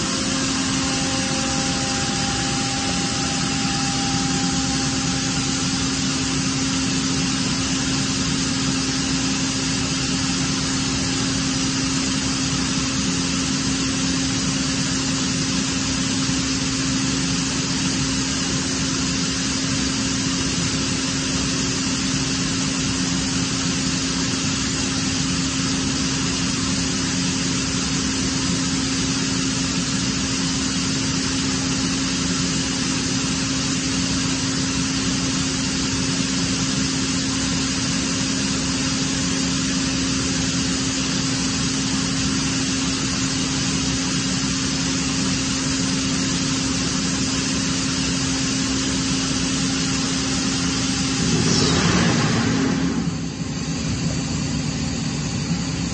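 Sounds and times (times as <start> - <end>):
air compressor humming and hissing: 0.0 - 55.9.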